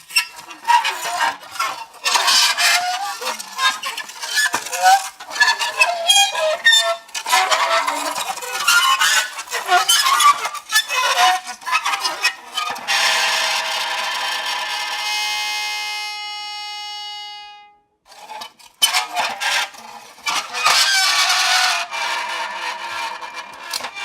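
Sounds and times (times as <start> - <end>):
dry ice squealing on metal: 0.1 - 24.0.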